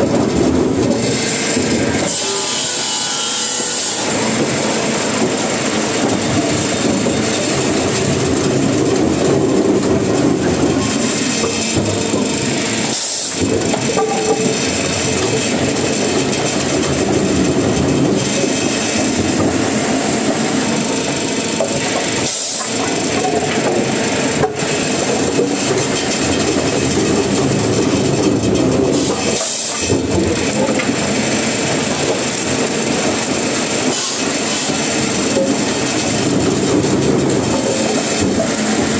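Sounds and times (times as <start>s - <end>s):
wood-processing machinery clattering: 0.0s - 38.9s.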